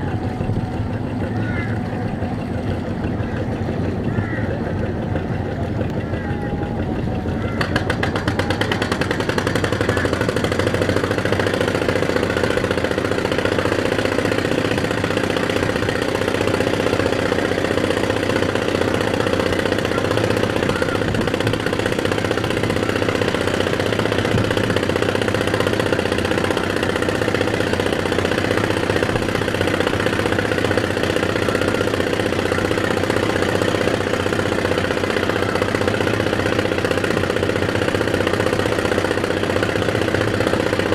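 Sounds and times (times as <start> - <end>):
boat engine running steadily: 0.0 - 40.9.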